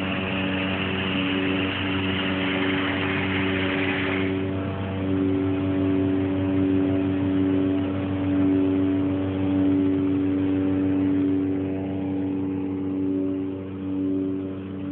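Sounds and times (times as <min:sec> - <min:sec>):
steady rushing hiss: 0:00.0 - 0:12.4
drone of held tones: 0:00.0 - 0:14.9.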